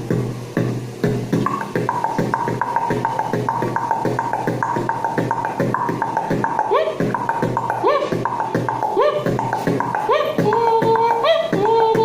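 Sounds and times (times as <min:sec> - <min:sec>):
beatboxing pattern: 0:00.0 - 0:12.0.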